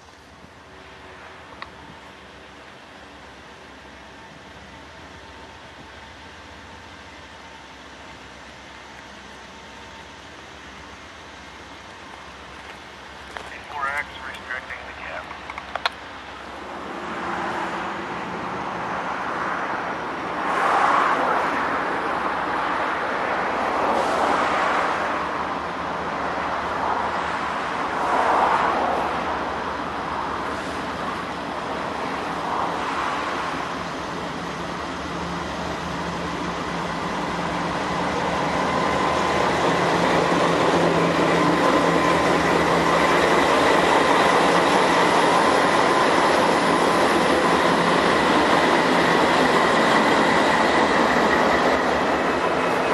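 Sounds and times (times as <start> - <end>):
diesel freight train rumble: 0.0 - 52.9
road traffic passing: 9.7 - 52.9.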